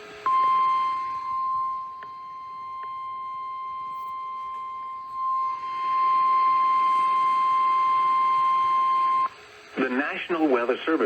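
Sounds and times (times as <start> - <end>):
steady high alarm beep: 0.2 - 9.4.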